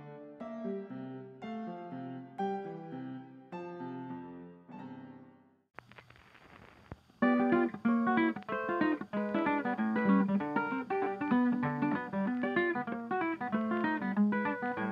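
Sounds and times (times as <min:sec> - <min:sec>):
plucked guitar tune: 0:00.0 - 0:05.4, 0:07.2 - 0:14.9.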